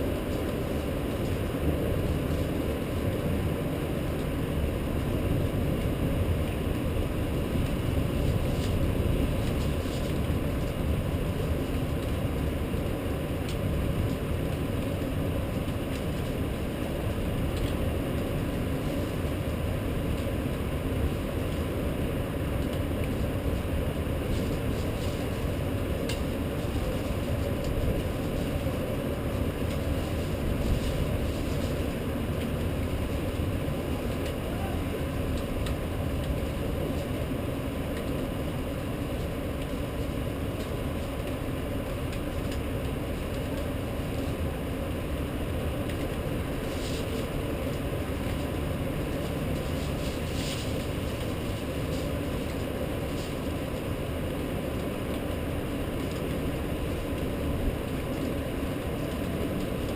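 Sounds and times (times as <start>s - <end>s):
rain and wind rushing: 0.0s - 59.9s.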